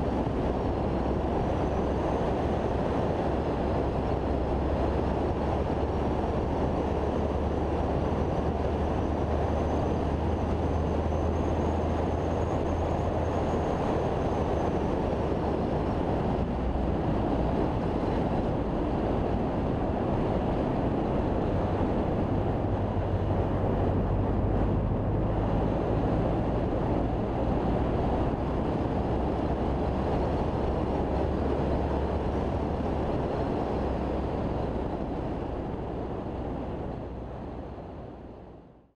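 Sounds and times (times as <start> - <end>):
car engine drone: 0.0 - 38.8
road and wind noise: 0.0 - 38.9.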